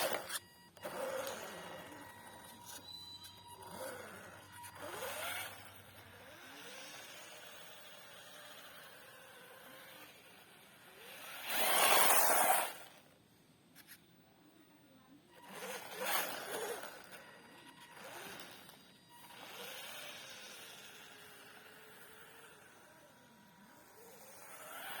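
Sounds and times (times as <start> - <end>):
rc car tyres scraping: 0.0 - 14.0, 15.4 - 25.0.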